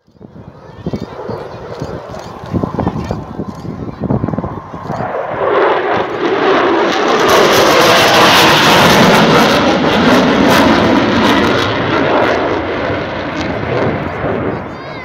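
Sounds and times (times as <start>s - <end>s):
fighter jet flying past: 0.4s - 15.0s.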